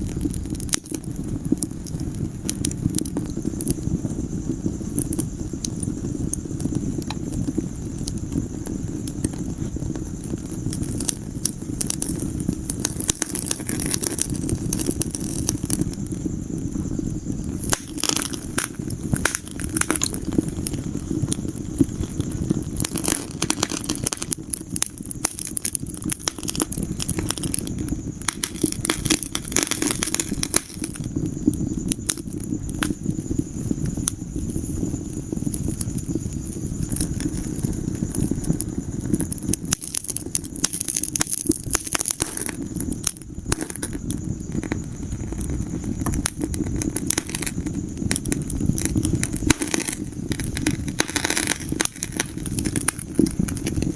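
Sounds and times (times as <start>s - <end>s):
fire crackling and popping: 0.0s - 53.9s
fire flames rumbling: 0.0s - 53.9s.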